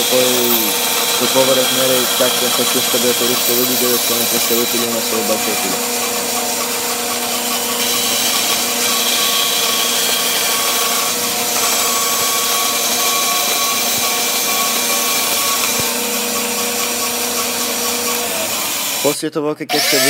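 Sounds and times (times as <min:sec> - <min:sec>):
band saw cutting wood: 0:00.0 - 0:20.0.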